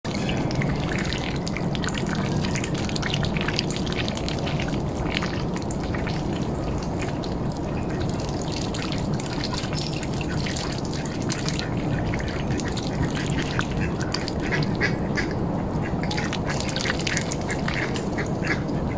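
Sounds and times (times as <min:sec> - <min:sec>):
water drips and small splashes: 0:00.1 - 0:18.9.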